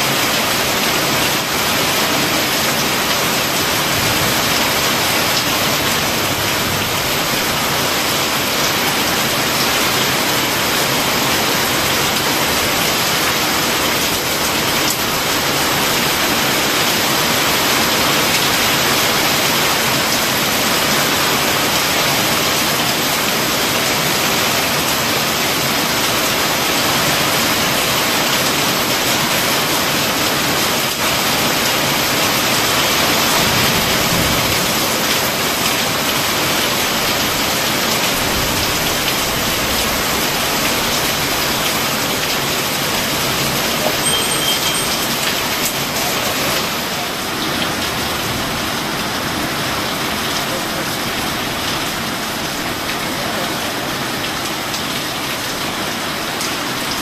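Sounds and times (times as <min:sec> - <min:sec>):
heavy rain on a sheet roof: 0:00.0 - 0:57.0.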